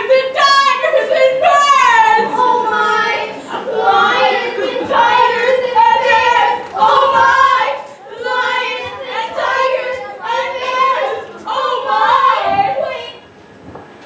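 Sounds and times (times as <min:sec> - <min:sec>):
young performers singing: 0:00.0 - 0:13.3.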